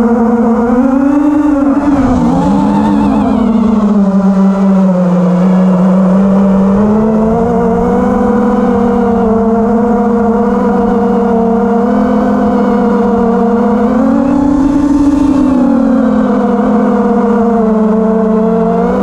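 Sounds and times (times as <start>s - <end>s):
drone propellers whining: 0.0s - 19.0s
wind rumbling on microphone: 0.0s - 19.0s.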